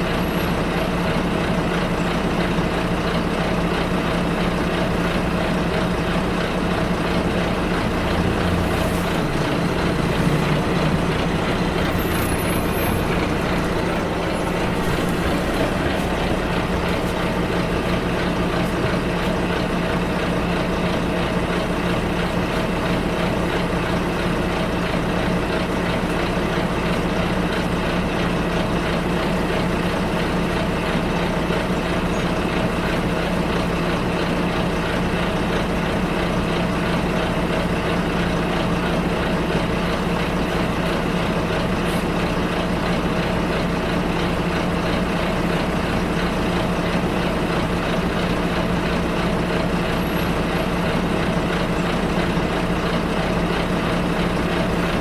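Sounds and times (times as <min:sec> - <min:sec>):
bus engine droning: 0:00.0 - 0:55.0
road and cabin noise: 0:00.0 - 0:55.0.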